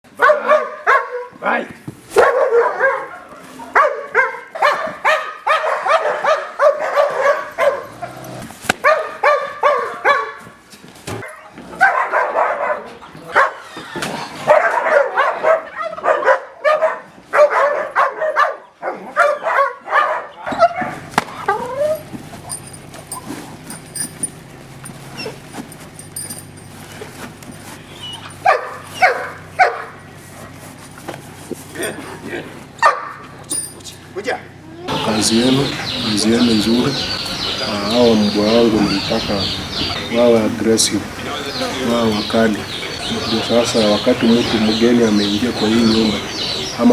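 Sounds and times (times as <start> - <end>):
guard dogs barking: 0.1 - 1.5, 2.1 - 10.6, 11.2 - 26.1, 27.0 - 31.0, 31.8 - 33.5, 34.9 - 46.9.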